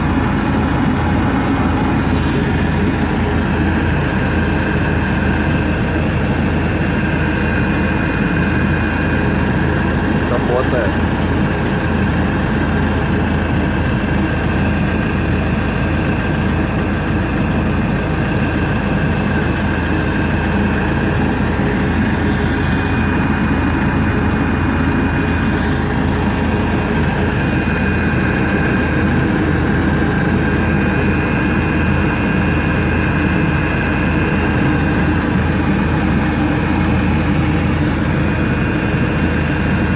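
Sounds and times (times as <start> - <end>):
heater machine humming and whining: 0.0 - 39.9.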